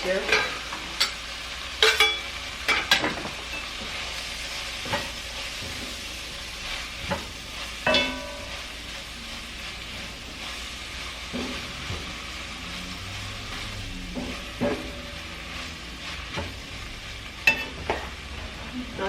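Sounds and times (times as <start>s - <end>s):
mushrooms sizzling in a frying pan: 0.0s - 19.0s.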